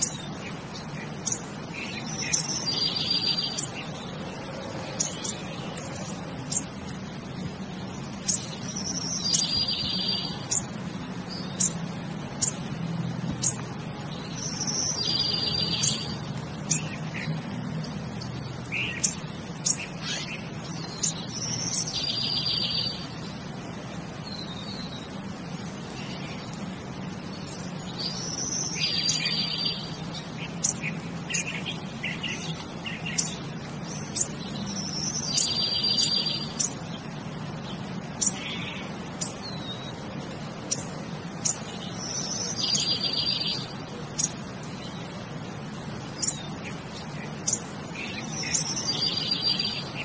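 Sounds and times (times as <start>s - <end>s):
birds chirping and trilling: 0.0s - 50.0s.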